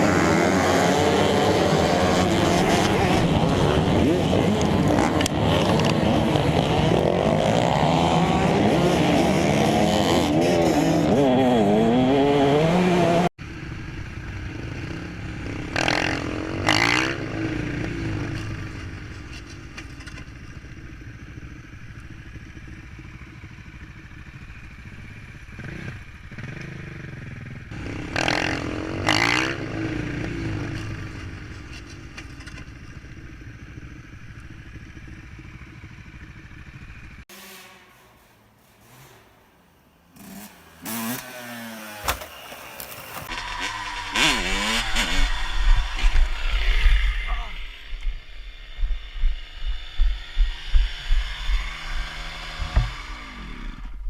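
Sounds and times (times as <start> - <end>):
motorcycle passing by: 0.0 - 19.3, 20.3 - 37.6, 38.6 - 54.0
motocross bikes revving: 0.0 - 54.0.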